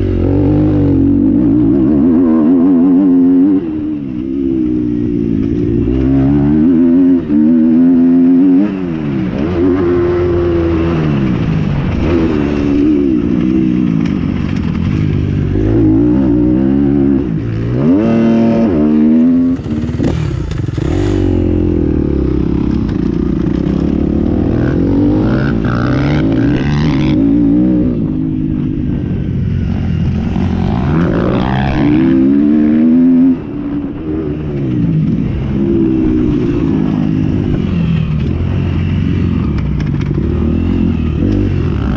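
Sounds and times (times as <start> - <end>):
motocross motorcycles revving: 0.0 - 41.9.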